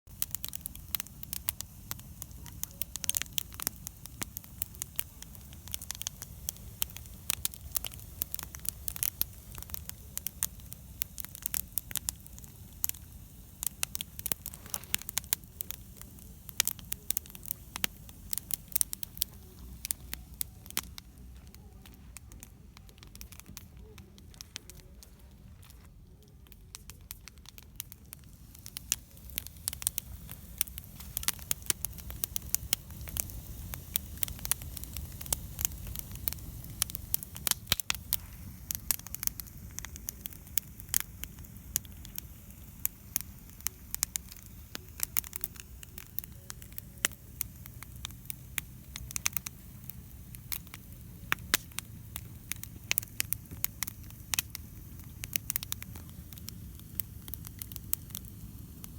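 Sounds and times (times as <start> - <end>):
campfire crackling and popping: 0.1 - 58.9.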